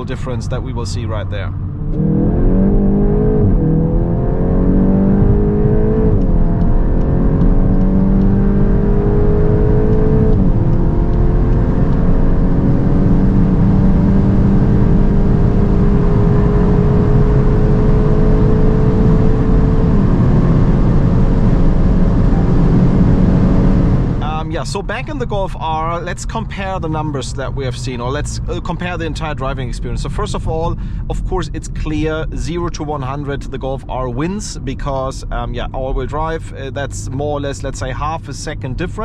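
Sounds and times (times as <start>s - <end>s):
car engine at full throttle: 0.0s - 39.0s.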